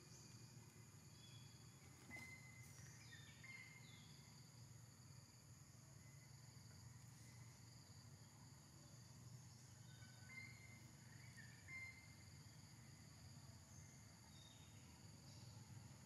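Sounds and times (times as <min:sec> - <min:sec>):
insect buzz: 0:00.0 - 0:16.0.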